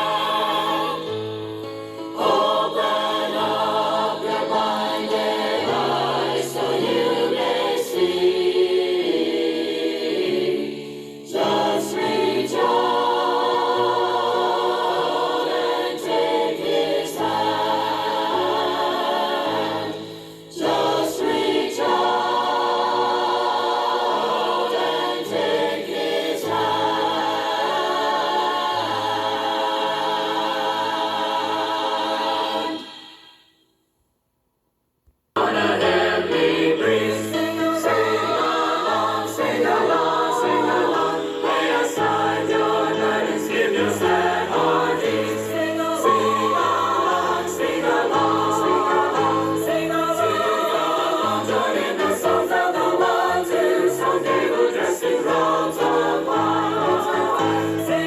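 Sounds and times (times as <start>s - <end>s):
choir singing gospel harmony: 0.0s - 33.5s, 35.4s - 58.0s.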